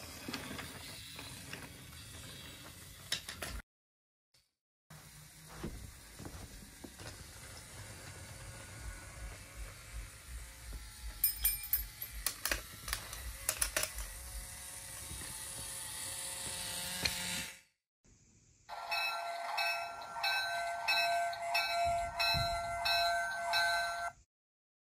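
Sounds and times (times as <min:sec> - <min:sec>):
toy train motor running: 0:00.0 - 0:03.5, 0:04.9 - 0:17.7, 0:18.7 - 0:24.0.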